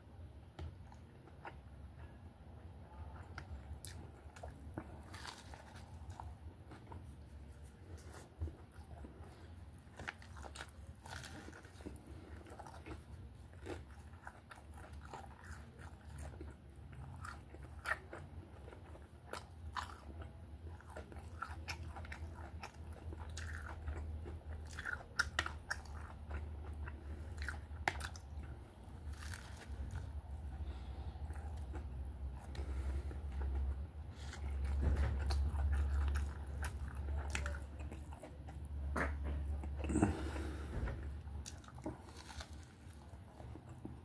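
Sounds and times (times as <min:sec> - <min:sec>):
steady low hum: 0:00.0 - 0:44.0
sandwich crunching and chewing: 0:03.1 - 0:44.0.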